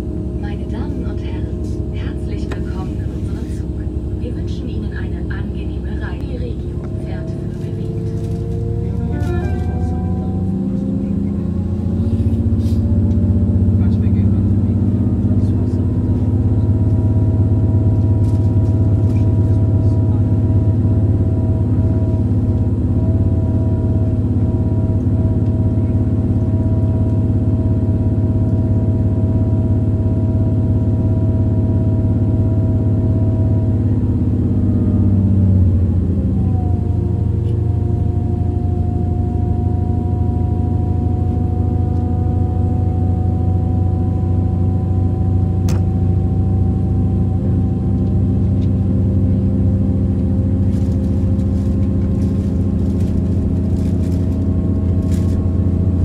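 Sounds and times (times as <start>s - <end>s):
train droning drive tone: 0.0s - 56.0s
train low rumble: 0.0s - 56.0s.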